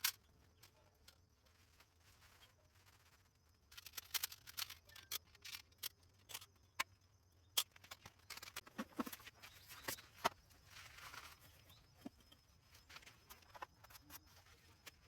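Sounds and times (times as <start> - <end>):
light clicks and rustles: 0.0 - 15.0.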